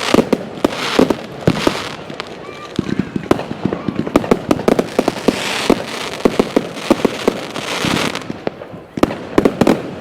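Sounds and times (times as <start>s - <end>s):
fireworks banging: 0.0s - 10.0s
hissing crackle of fireworks: 0.0s - 10.0s.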